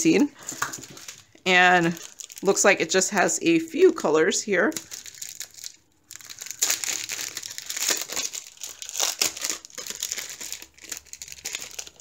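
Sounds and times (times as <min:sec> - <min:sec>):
plastic packaging crinkling: 0:00.4 - 0:03.3, 0:04.6 - 0:12.0.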